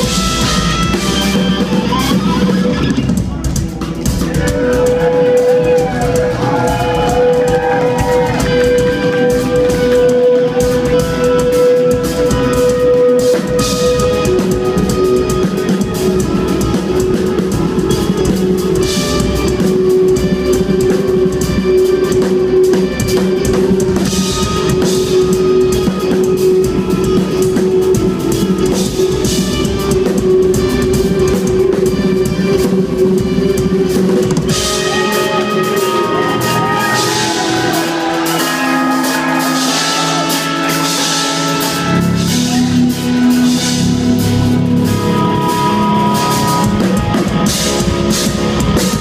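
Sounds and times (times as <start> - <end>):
drum kit playing: 0.0 - 49.0
electric guitars playing metal: 0.0 - 49.0.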